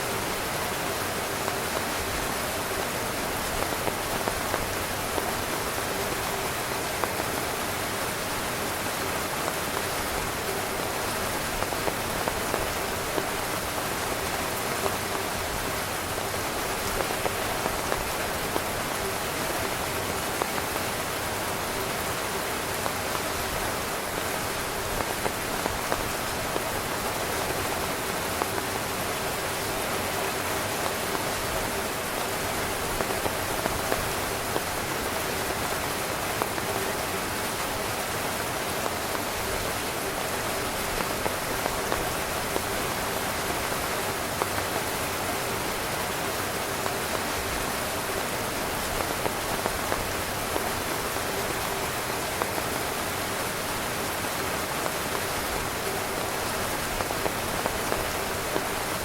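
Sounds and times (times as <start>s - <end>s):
heavy rain on tent fabric: 0.0s - 59.0s.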